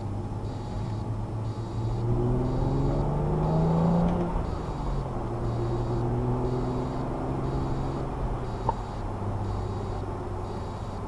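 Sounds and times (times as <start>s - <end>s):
car engine accelerating: 0.0s - 11.0s
road noise inside car: 0.0s - 11.0s.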